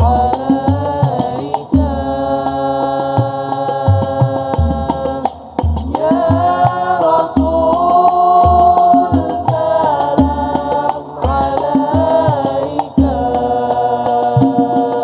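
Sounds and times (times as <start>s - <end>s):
deep drum beating steady rhythm: 0.0s - 15.0s
frame drums: 0.0s - 15.0s
male choir singing in unison: 0.0s - 15.0s.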